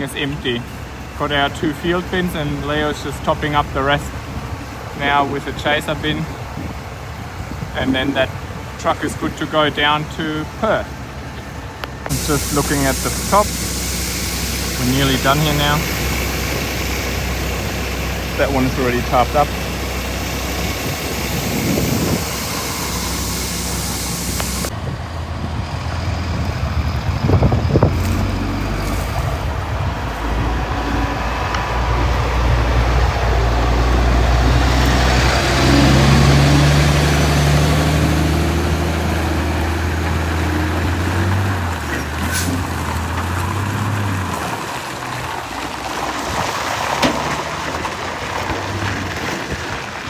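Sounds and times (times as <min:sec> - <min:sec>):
diesel engine hum: 0:00.0 - 0:50.0.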